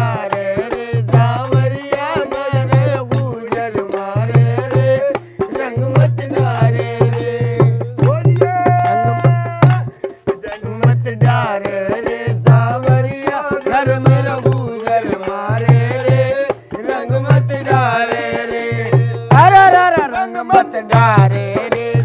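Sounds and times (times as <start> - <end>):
hand drums beating: 0.0 - 22.0
upbeat folk music: 0.0 - 22.0.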